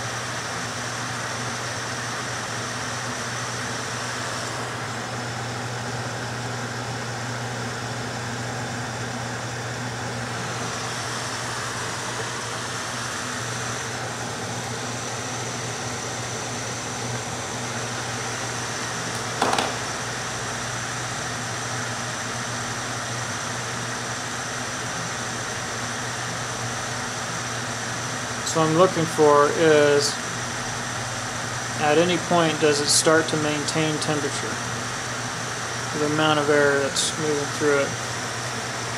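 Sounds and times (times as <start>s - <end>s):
fan blowing air through duct: 0.0s - 38.9s.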